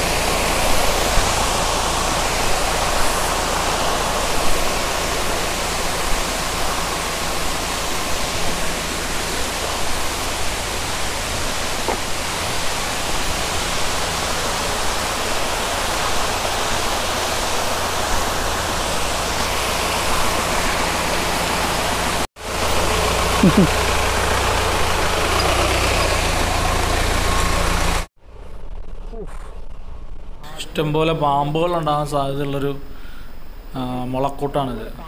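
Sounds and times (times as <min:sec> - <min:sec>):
waterfall and stream rushing: 0:00.0 - 0:28.1.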